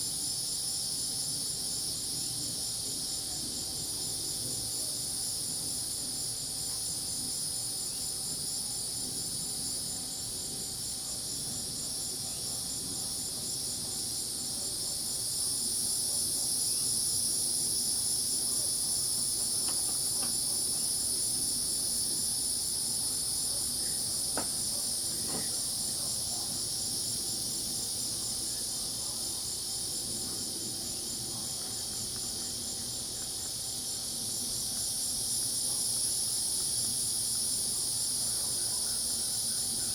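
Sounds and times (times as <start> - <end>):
crickets and cicadas trilling: 0.0 - 39.9.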